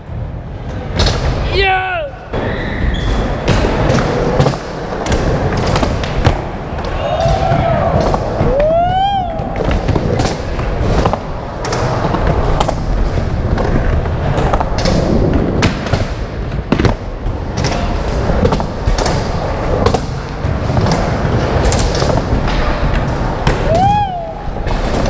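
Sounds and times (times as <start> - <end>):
skateboard wheels rolling: 2.4 - 25.0
skateboard clacks and thuds: 3.2 - 25.0.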